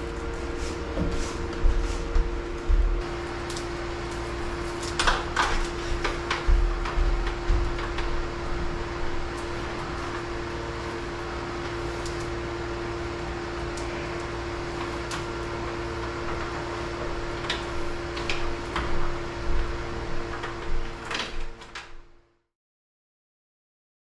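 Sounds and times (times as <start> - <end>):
steady mechanical hum: 0.0 - 22.5.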